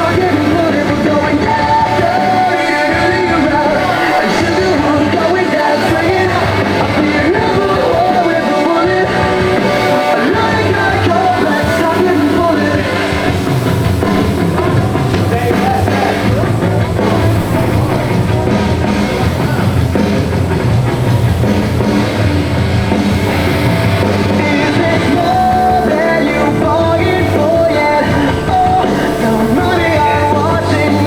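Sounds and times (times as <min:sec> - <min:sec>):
drum kit: 0:00.0 - 0:31.0
loud rock music: 0:00.0 - 0:31.0
person singing: 0:00.0 - 0:31.0.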